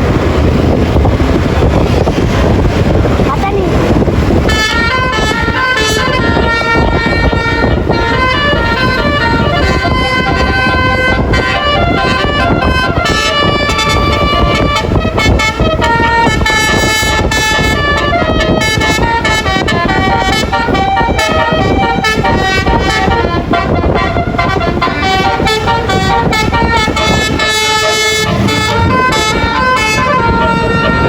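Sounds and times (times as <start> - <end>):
bus rumble: 0.0 - 31.0
traffic: 0.0 - 31.0
multi-tone musical bus horn: 3.7 - 31.0.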